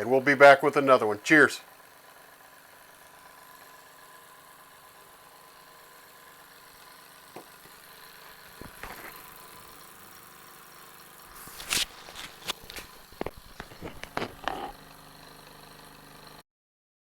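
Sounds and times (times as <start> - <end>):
toy steam engine humming: 0.0 - 16.4.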